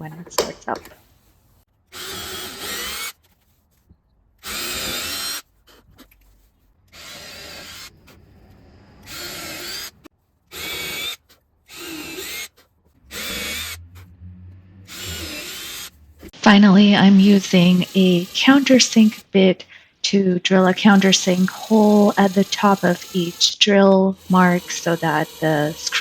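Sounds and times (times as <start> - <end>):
power drill boring into wood: 1.9 - 3.4, 4.4 - 5.8, 6.9 - 14.1, 14.8 - 26.0.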